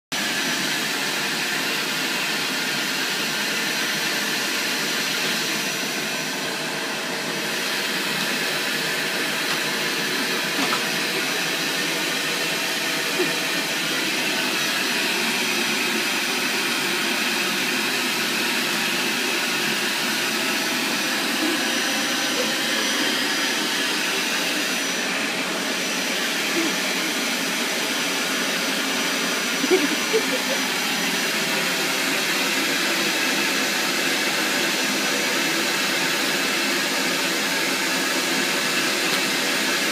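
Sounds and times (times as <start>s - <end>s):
vacuum cleaner on carpet: 0.1s - 39.9s.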